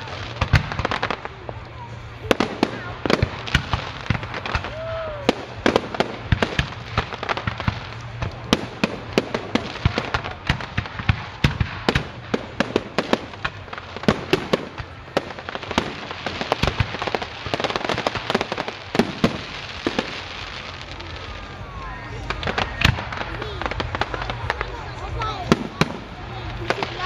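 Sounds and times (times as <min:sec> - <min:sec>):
continuous noisy background: 0:00.0 - 0:27.0.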